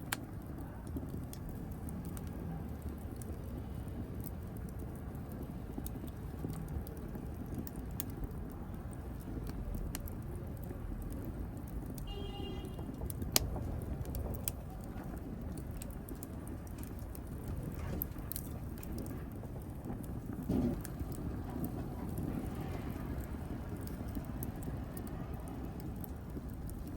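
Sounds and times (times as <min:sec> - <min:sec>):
fire crackling and popping: 0:00.0 - 0:26.9.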